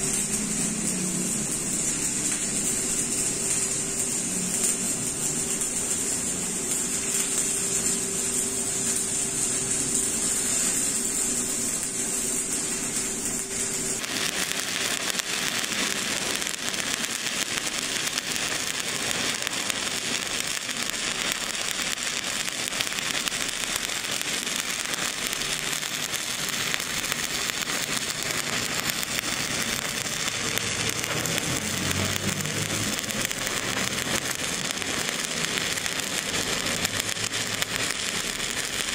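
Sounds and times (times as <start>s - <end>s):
arc welding crackle: 0.0s - 38.9s.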